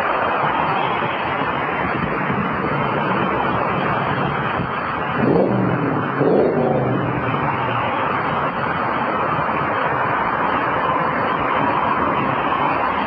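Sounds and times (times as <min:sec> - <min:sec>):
highway traffic on wet road: 0:00.0 - 0:13.0.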